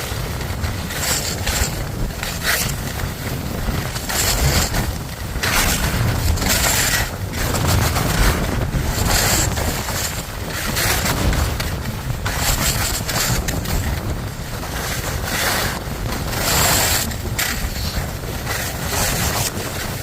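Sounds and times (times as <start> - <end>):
skis sliding on snow: 0.0 - 20.0
wind on microphone: 0.0 - 20.0.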